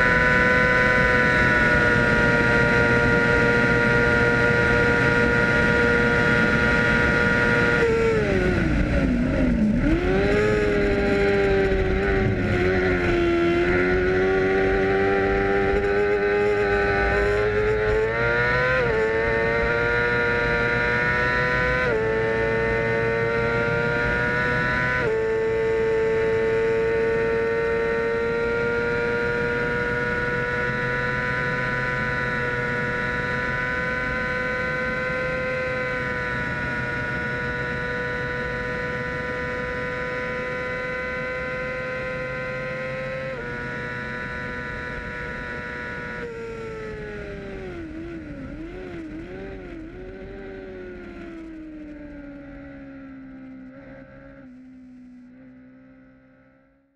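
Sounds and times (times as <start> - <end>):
race motorcycle engine revving: 0.0 - 56.9.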